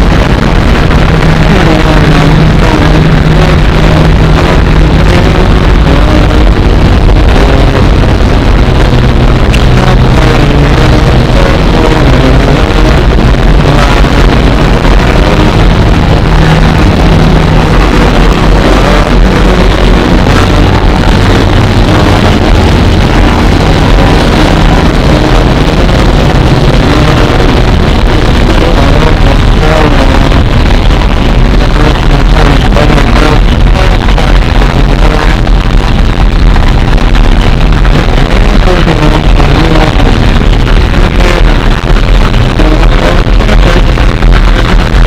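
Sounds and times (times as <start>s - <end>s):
distorted noise music: 0.0s - 45.0s.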